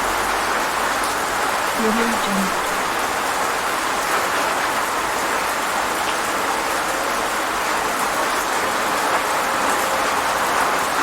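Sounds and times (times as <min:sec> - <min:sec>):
rain falling steadily: 0:00.0 - 0:11.0.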